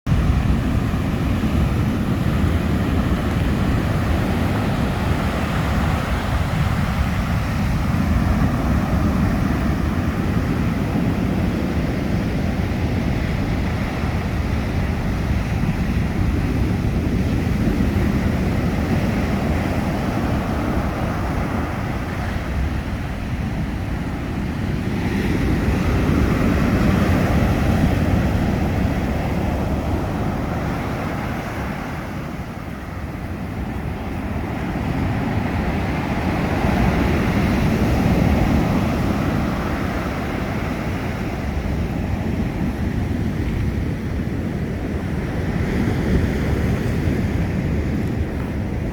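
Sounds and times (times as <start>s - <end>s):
ocean surf breaking: 0.1s - 48.9s.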